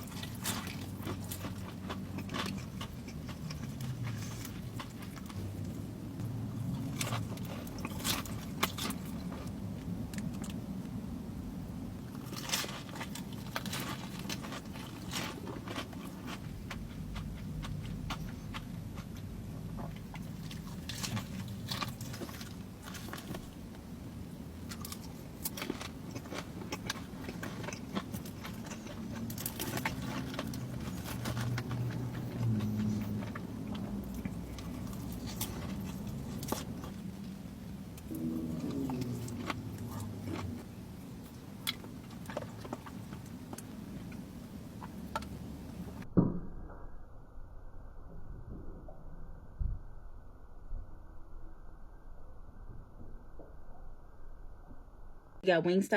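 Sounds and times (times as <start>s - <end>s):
crunchy fried chicken eating: 0.0s - 10.9s, 12.0s - 46.0s
low steady hum: 0.0s - 55.9s.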